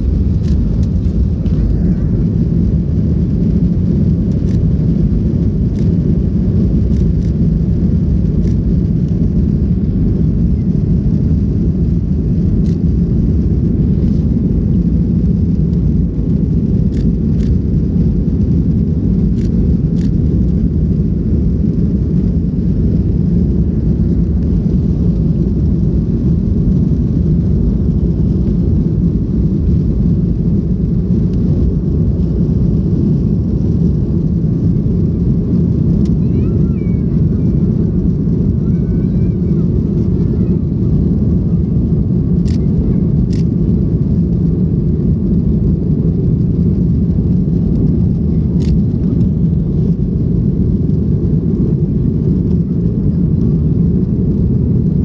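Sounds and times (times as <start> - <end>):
aircraft cabin low rumble: 0.0 - 55.0.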